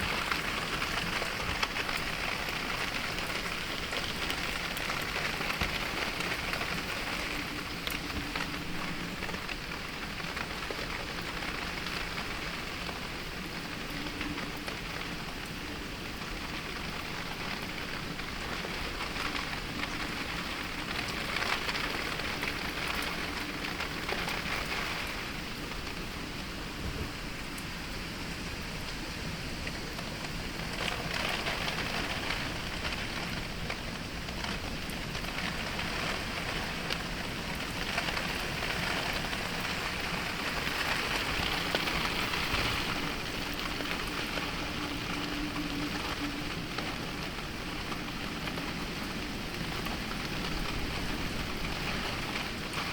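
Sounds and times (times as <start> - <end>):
heavy rain pattering: 0.0 - 52.9
raindrops ticking: 0.0 - 52.9.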